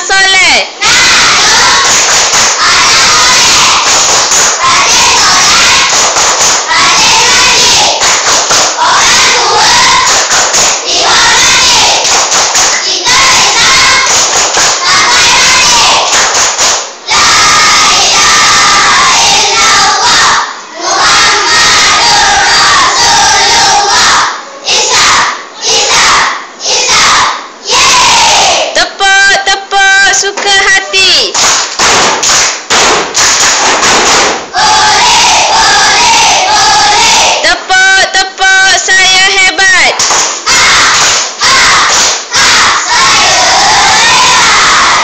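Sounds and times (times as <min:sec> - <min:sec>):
children shouting a clapping chant: 0:00.8 - 0:28.8, 0:30.4 - 0:37.5, 0:39.8 - 0:45.0.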